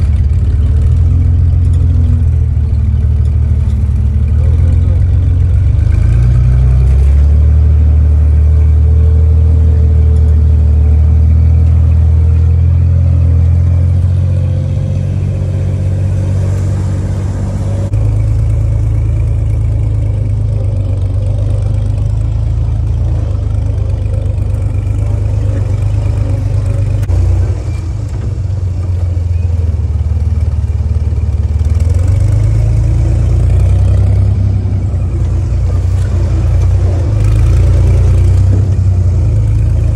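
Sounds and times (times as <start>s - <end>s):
jeep engine droning under load: 0.0s - 39.9s.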